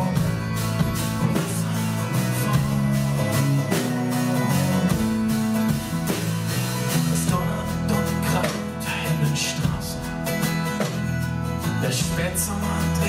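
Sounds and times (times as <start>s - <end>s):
electric bass line: 0.0s - 13.0s
steady drum beat: 0.0s - 13.0s
strummed acoustic guitar: 0.0s - 13.0s.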